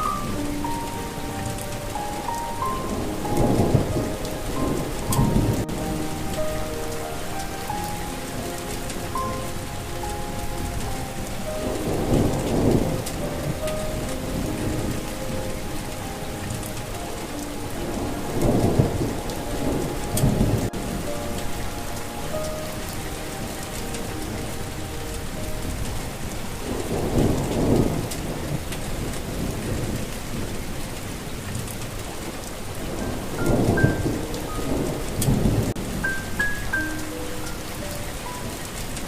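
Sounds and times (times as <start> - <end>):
rolling thunder: 0.0 - 37.9
soft sustained melody: 0.0 - 39.0
steady rain: 0.0 - 39.0.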